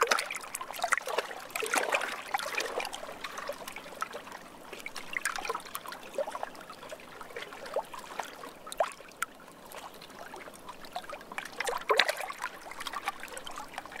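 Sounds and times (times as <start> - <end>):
stream trickling and babbling: 0.0 - 14.0.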